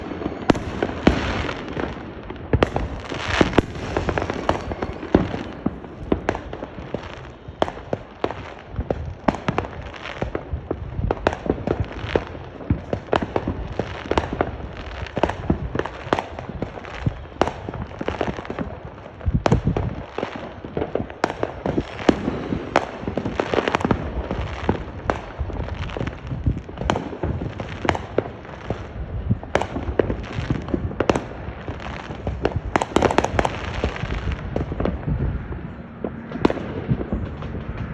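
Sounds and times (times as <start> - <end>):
fireworks bangs and pops: 0.0 - 37.9
fireworks crackling: 0.0 - 37.9.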